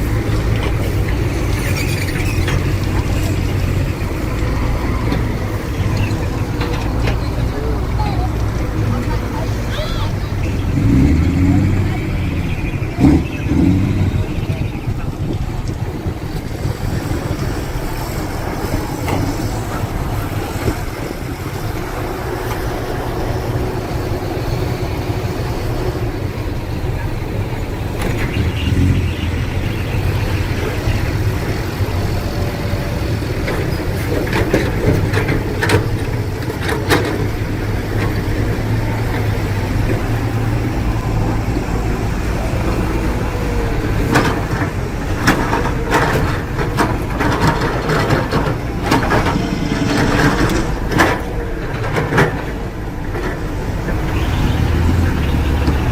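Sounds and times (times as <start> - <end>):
diesel machinery engine running: 0.0 - 55.9.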